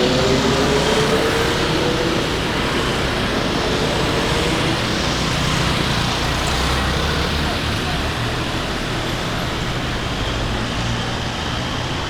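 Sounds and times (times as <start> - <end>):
rush of passing vehicles: 0.0 - 12.0.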